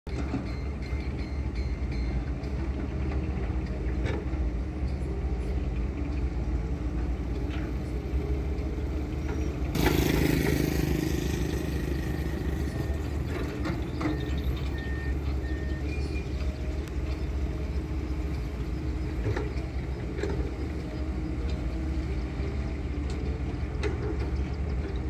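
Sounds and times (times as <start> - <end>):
excavators and dump truck rumbling: 0.1 - 25.0.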